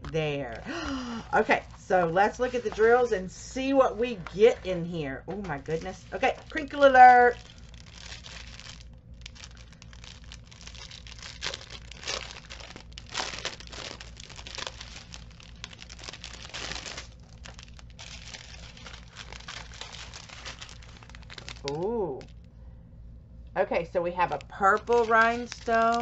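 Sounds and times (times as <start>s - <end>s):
plastic packaging crinkling: 0.0s - 4.8s, 5.4s - 22.5s, 24.2s - 26.0s.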